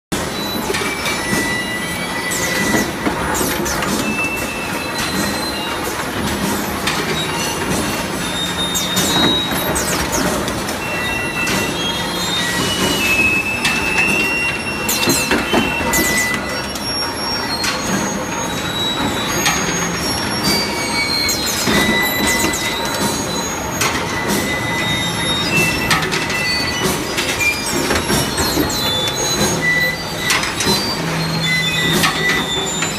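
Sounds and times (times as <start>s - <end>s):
high metallic squeals: 0.3s - 32.9s.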